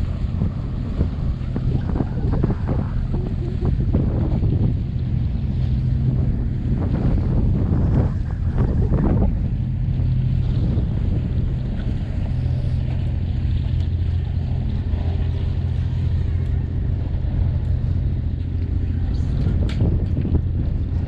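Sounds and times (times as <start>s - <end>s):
diesel engine droning: 0.0s - 21.0s
water noise: 0.0s - 21.0s
wind: 0.0s - 21.0s.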